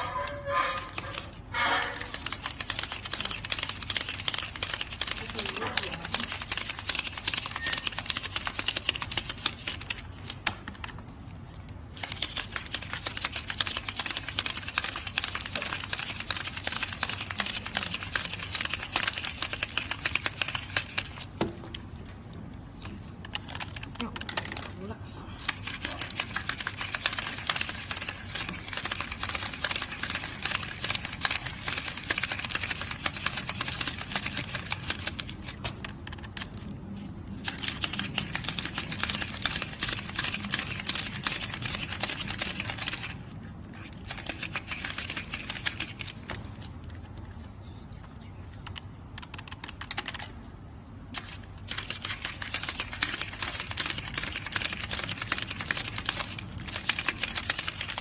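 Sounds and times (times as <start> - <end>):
banknotes flicked by hand: 0.2 - 24.8, 25.4 - 47.4, 48.5 - 50.4, 51.1 - 58.0.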